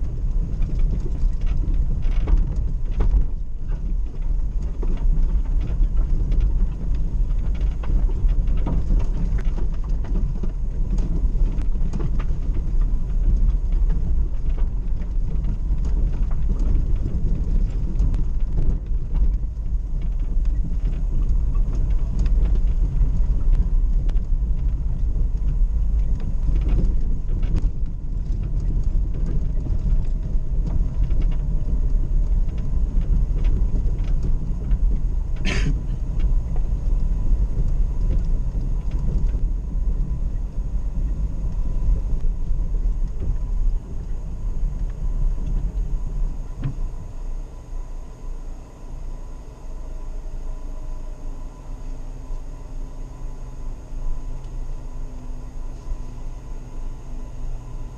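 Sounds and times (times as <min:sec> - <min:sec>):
vehicle engine rumble: 0:00.0 - 0:57.9.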